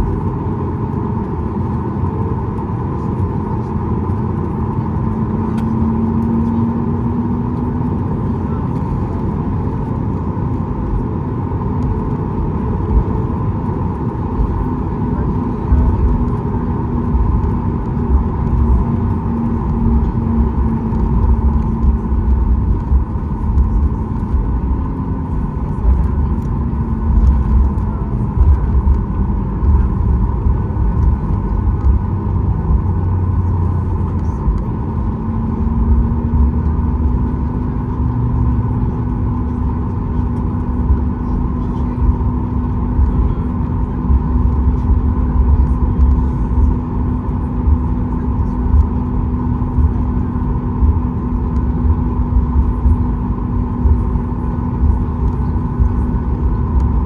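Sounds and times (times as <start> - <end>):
aircraft engine hum: 0.0 - 57.0
aircraft rolling rumble: 0.0 - 57.0.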